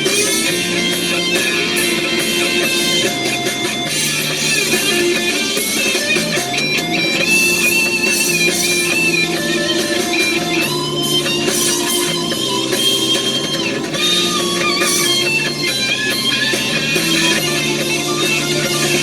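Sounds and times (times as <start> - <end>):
rock guitar: 0.0 - 19.0
steady bass line: 0.0 - 19.0.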